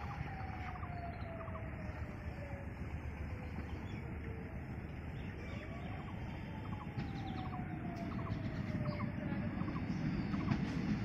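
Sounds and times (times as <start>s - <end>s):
diesel train rumble: 0.0s - 11.0s
small birds chirping: 0.0s - 11.0s.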